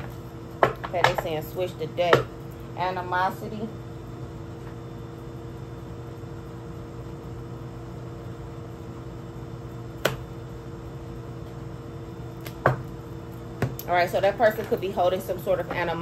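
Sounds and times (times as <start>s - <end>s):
steady room hum: 0.0s - 16.0s.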